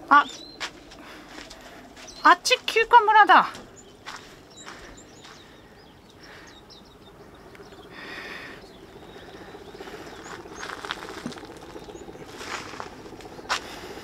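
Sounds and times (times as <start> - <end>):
small birds chirping: 0.0 - 14.0
footsteps on trail: 0.2 - 6.5, 8.6 - 14.0.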